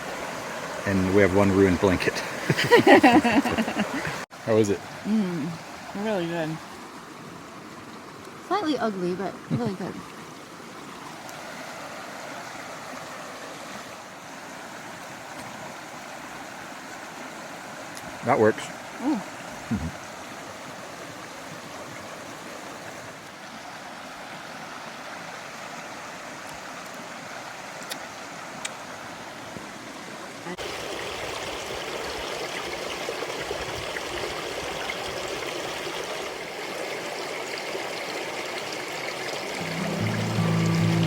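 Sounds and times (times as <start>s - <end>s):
creek water flowing: 0.0s - 41.0s.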